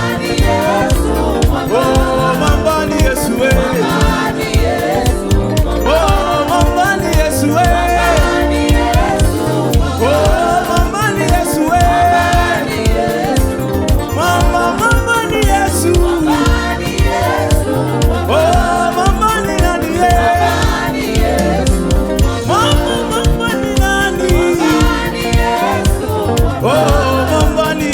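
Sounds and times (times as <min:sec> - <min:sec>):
band with bass and drums: 0:00.0 - 0:27.9
voices singing: 0:00.0 - 0:27.9.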